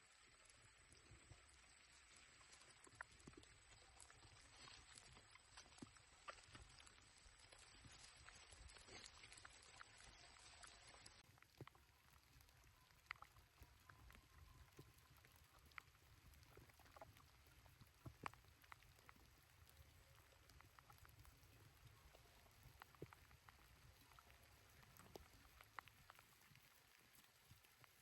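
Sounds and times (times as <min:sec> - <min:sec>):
soft ticks: 0:02.1 - 0:28.0.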